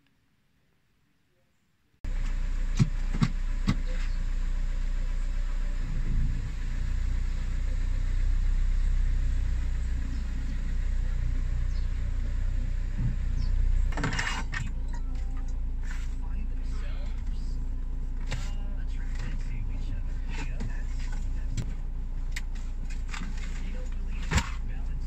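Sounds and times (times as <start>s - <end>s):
car engine idling: 2.0s - 25.0s.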